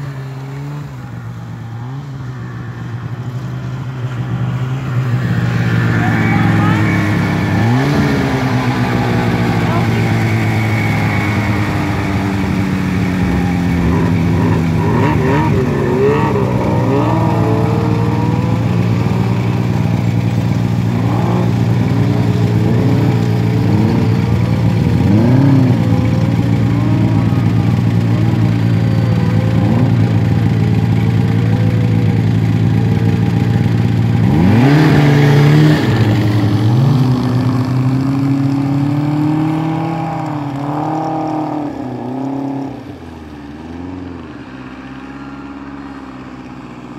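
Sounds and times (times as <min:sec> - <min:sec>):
snowmobile engine revving: 0:00.0 - 0:46.9
snowmobile idling: 0:00.0 - 0:46.9.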